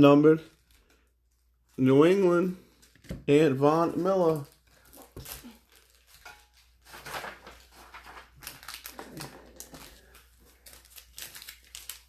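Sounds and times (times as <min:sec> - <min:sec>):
packaging rustling and crinkling: 0:00.4 - 0:12.0.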